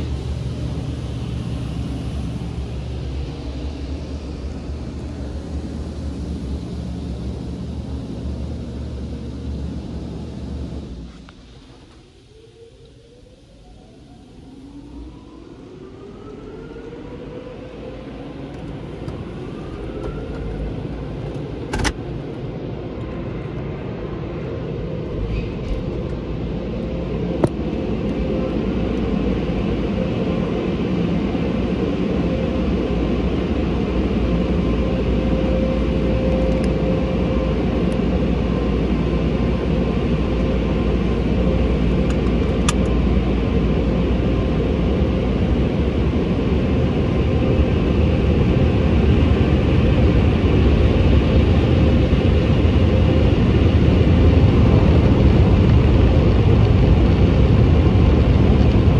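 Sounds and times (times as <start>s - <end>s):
air-dryer blowers whining: 0.0s - 58.9s.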